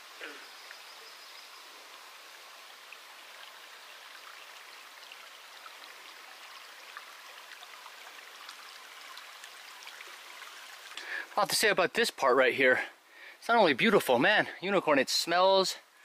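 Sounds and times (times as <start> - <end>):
running water: 0.0 - 15.7.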